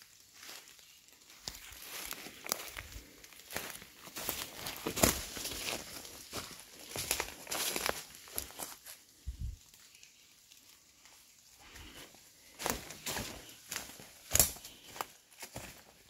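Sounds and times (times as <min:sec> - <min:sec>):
footsteps crunching on rough ground: 0:00.0 - 0:09.6, 0:11.6 - 0:16.0.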